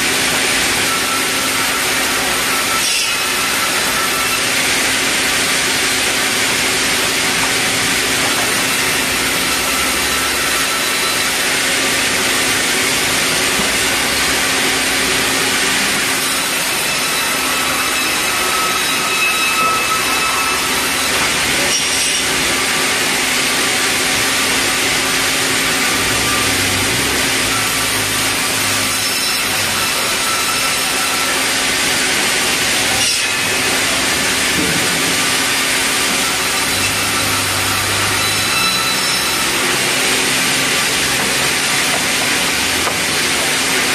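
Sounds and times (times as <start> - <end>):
band saw cutting timber: 0.0 - 43.9
constant machine hum: 0.0 - 43.9.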